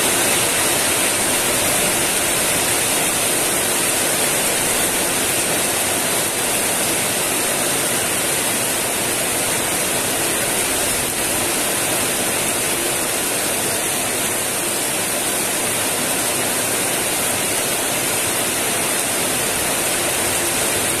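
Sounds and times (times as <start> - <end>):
heavy rain on concrete: 0.0 - 21.0.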